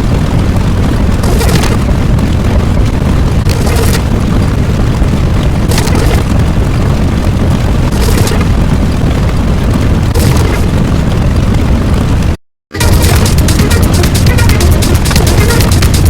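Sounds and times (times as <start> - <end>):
rumbling explosion: 0.0 - 16.0.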